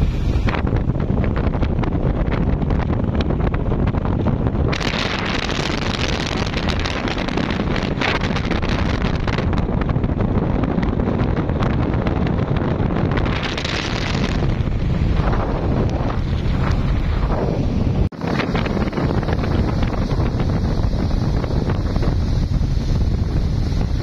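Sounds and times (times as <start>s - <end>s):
speedboat engines running: 0.0s - 24.0s
water rushing past hull: 0.0s - 24.0s
wind buffeting microphone: 0.0s - 24.0s.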